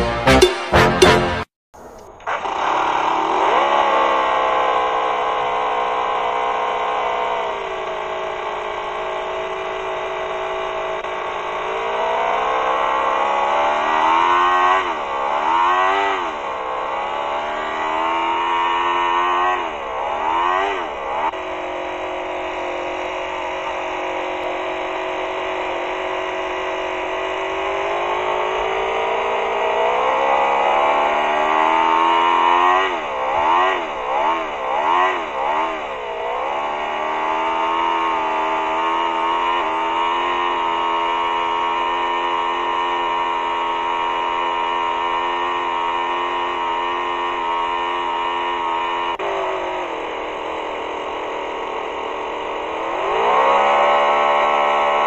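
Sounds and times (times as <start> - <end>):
model engine revving: 1.8 - 55.0.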